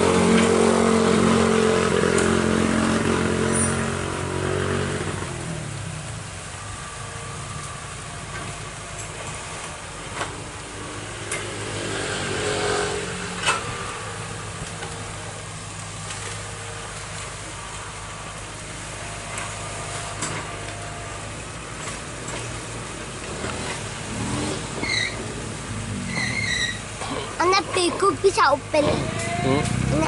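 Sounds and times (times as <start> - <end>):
diesel engine humming: 0.0 - 30.0.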